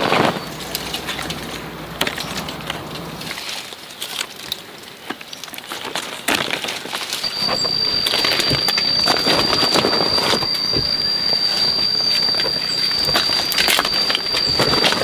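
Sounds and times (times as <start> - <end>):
leaves rustling: 0.0 - 15.0
small stems cracking: 0.0 - 15.0.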